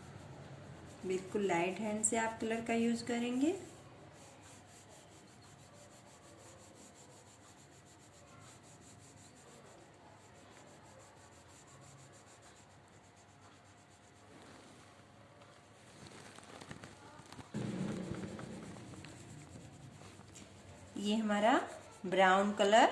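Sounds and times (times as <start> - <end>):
colouring stick rubbing on paper: 0.0 - 14.9, 15.5 - 22.9.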